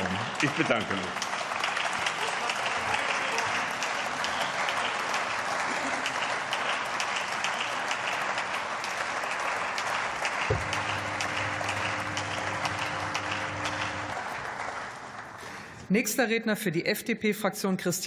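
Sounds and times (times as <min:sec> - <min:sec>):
audience clapping: 0:00.0 - 0:15.9.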